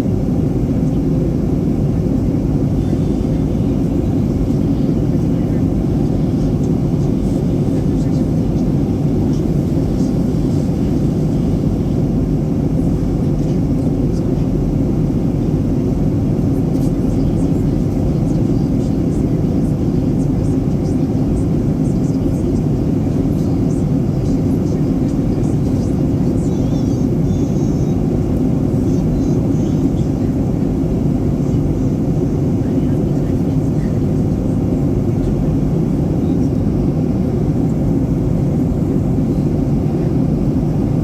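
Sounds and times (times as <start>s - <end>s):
jet engine rumble in cabin: 0.0s - 41.0s.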